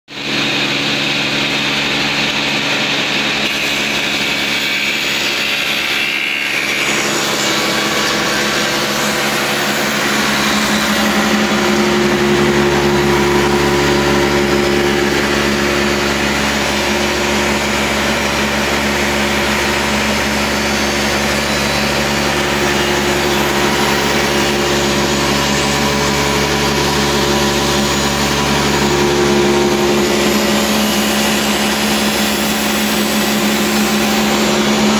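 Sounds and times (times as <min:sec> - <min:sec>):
planer machine hum: 0:00.1 - 0:34.9
deeper hum: 0:05.7 - 0:34.9.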